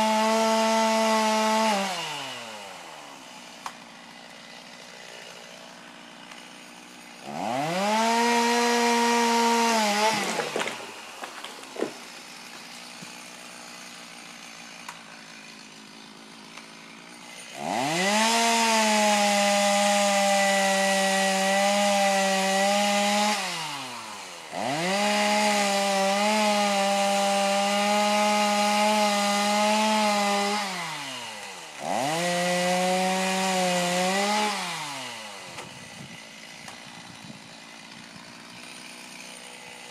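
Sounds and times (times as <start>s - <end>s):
chainsaw engine revving and idling: 0.0s - 39.9s.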